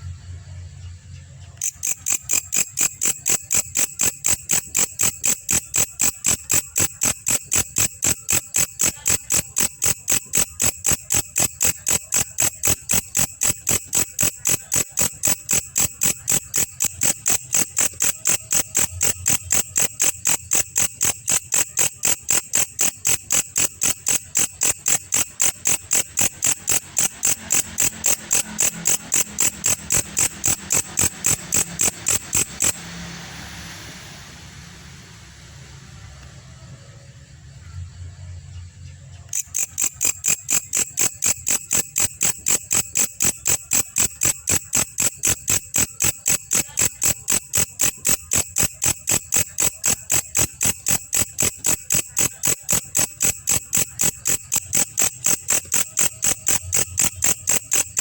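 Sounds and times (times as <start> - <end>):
katydid rapid chirps: 1.5 - 34.0, 39.2 - 58.0.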